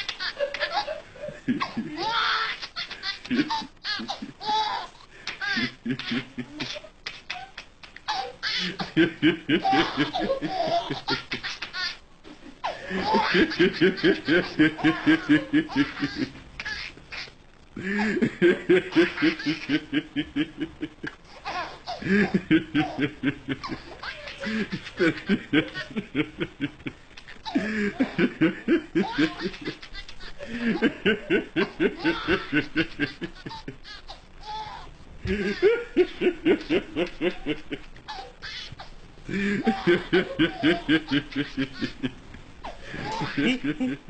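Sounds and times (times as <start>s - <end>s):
high-pitched laughter: 0.0s - 44.0s.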